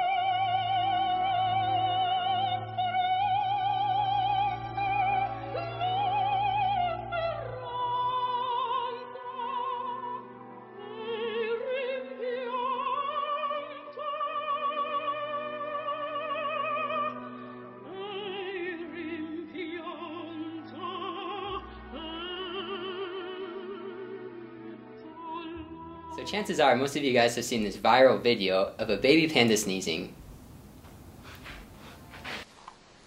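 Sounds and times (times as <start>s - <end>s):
operatic singing with vibrato: 0.0s - 30.2s.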